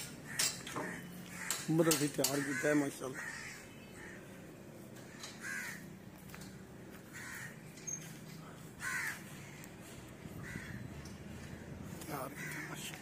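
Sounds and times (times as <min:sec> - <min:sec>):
crow cawing: 0:00.0 - 0:04.4, 0:05.0 - 0:06.2, 0:06.9 - 0:07.7, 0:08.6 - 0:13.0.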